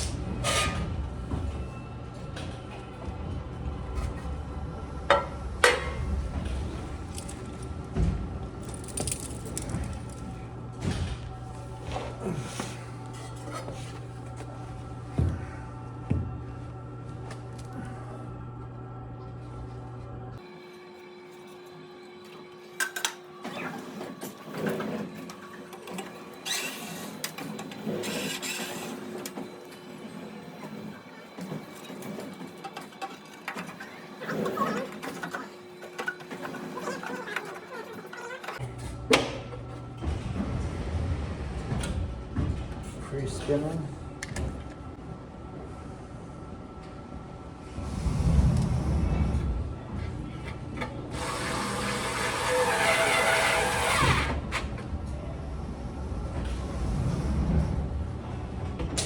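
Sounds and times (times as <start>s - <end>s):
steady low hum: 0.0s - 37.4s, 38.6s - 59.0s.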